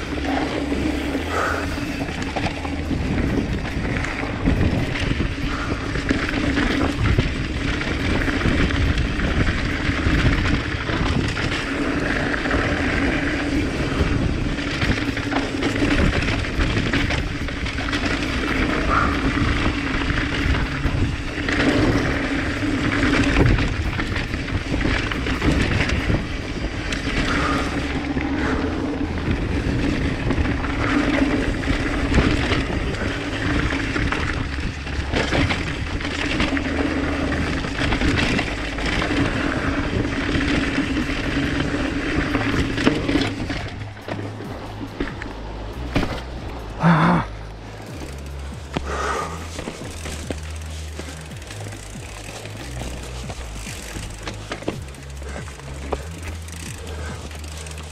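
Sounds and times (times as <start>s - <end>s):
bike rattling over bumps: 0.0s - 57.9s
buzzing hum: 0.0s - 57.9s
rushing wind: 0.0s - 57.9s
tyre noise on dirt and rock: 0.0s - 57.9s.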